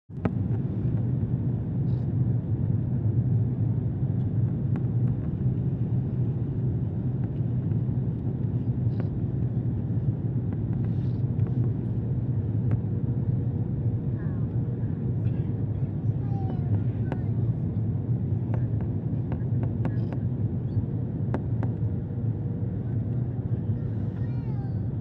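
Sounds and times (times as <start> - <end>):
jet engines rumbling: 0.2 - 25.0.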